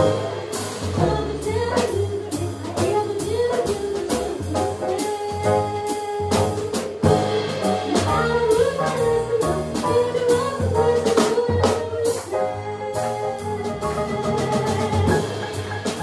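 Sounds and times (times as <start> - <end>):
drum kit with cymbals: 0.0 - 16.0
upright bass: 0.0 - 16.0
woman singing: 0.8 - 15.6.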